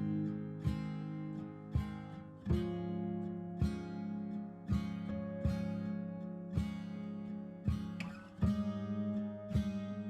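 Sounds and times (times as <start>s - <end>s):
strummed acoustic guitar chords: 0.0s - 10.0s.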